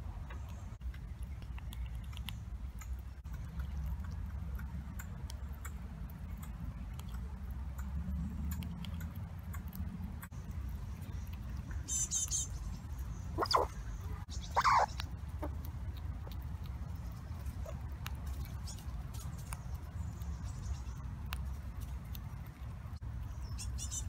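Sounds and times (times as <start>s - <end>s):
low rumble: 0.0s - 24.0s
squirrel crunching a nut: 0.4s - 23.7s.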